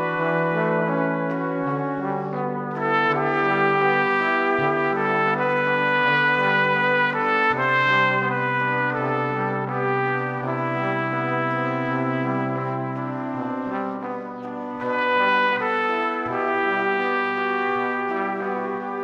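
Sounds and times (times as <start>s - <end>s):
brass sustained chords: 0.0s - 19.0s.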